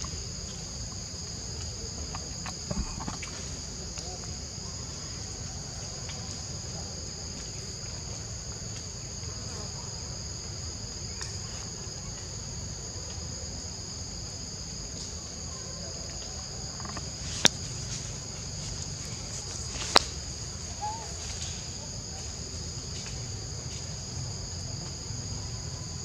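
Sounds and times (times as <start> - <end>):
insect chorus buzzing: 0.0 - 26.0.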